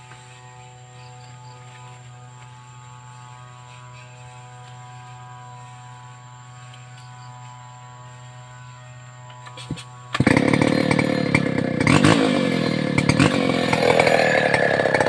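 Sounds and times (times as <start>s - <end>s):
chainsaw idling: 0.0s - 15.0s.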